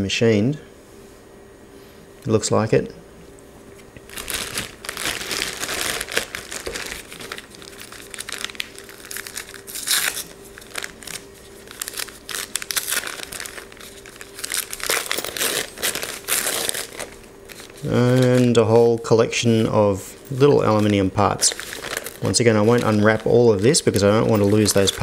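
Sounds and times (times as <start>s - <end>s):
paper and plastic crinkling: 4.0s - 25.0s.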